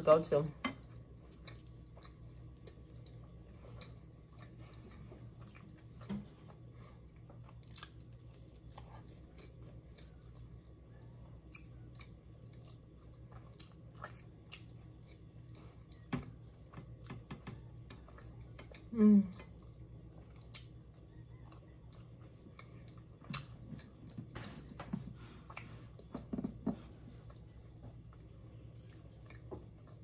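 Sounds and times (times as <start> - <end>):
low steady hum: 0.0 - 30.0
chewing and biting food: 0.8 - 24.4, 25.4 - 30.0.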